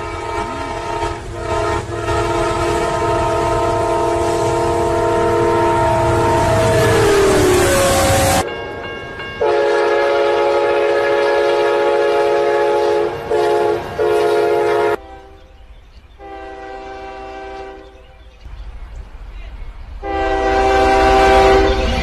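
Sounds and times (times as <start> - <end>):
locomotive horn blasts: 0.0 - 8.5, 9.4 - 15.5, 16.2 - 18.0, 20.0 - 22.0
faint train horn: 0.0 - 8.6, 9.4 - 18.3, 20.0 - 22.0.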